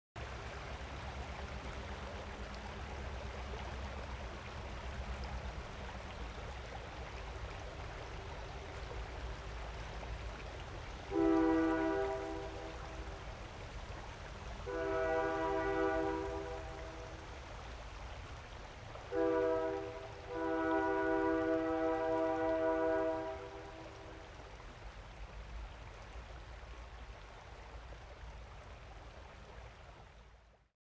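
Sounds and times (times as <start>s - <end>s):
rushing water: 0.2s - 30.7s.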